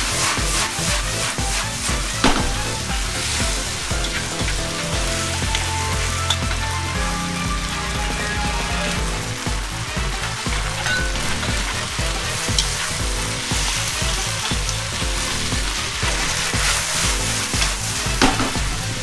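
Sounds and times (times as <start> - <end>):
sharp knock: 0.0 - 13.8, 14.5 - 18.8
background music with steady beat: 0.0 - 19.0
food sizzling in a wok: 0.0 - 19.0.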